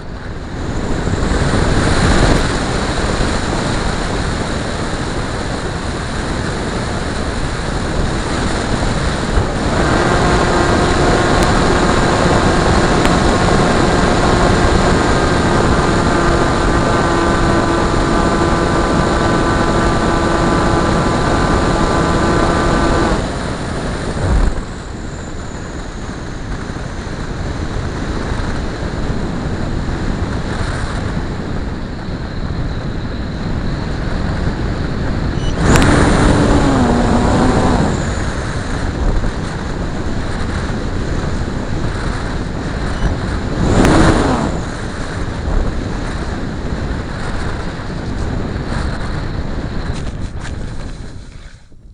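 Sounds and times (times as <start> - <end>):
model plane motor and propeller: 0.0 - 51.7
wind noise on microphone: 0.0 - 51.9.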